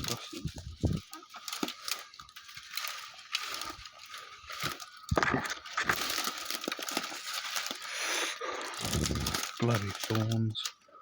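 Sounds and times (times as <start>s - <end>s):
undergrowth rustling and snapping: 0.0s - 7.9s, 8.8s - 10.8s.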